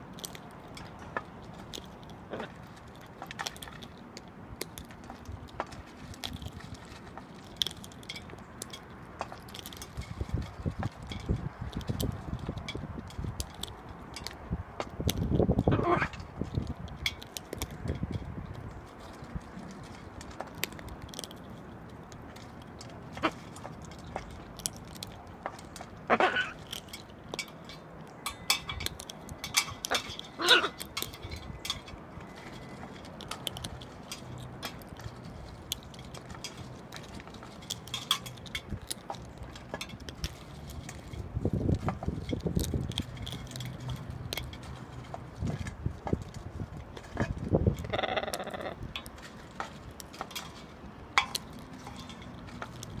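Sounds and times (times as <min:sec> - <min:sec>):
parrots cracking seeds: 0:00.0 - 0:53.0.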